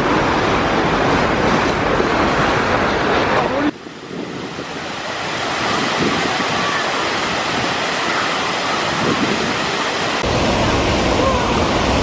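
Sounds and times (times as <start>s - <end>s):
churning water rushing: 0.0s - 12.0s
waterfall rushing: 0.0s - 12.0s.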